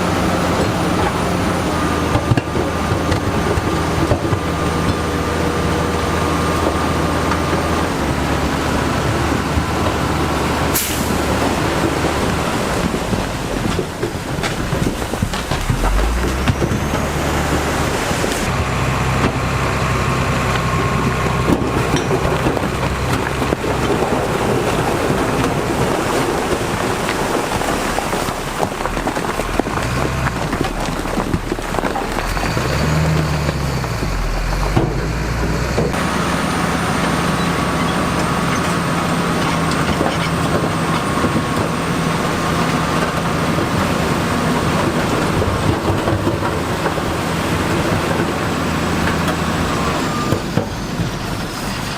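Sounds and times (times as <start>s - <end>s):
earthmoving machinery diesel engines: 0.0s - 51.9s.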